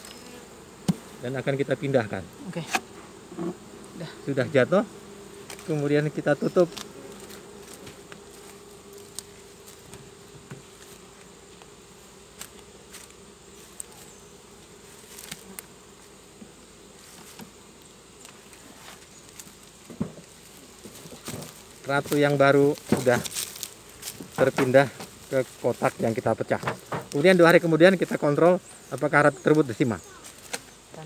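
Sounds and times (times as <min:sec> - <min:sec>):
honeybees humming: 0:00.0 - 0:31.0.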